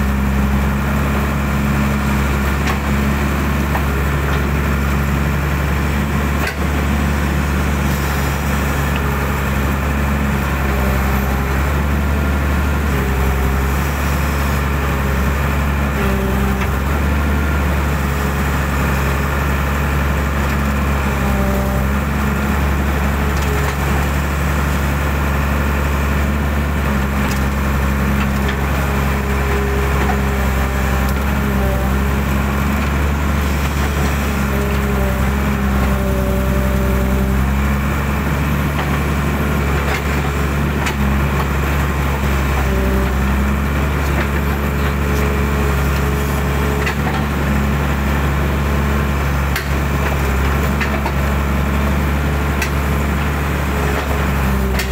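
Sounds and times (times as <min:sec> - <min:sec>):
excavator diesel engine running: 0:00.0 - 0:54.9
hydraulics whining: 0:00.0 - 0:54.9.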